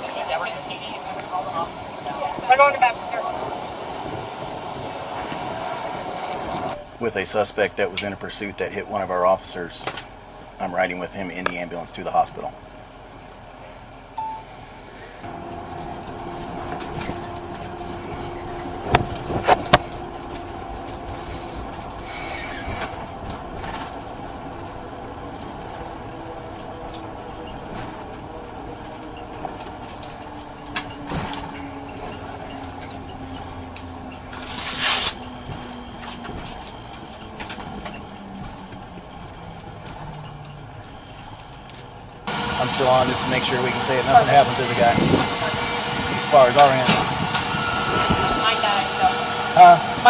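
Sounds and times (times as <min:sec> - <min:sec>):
road noise: 0:00.0 - 0:50.0
vehicle engine hum: 0:00.0 - 0:50.0.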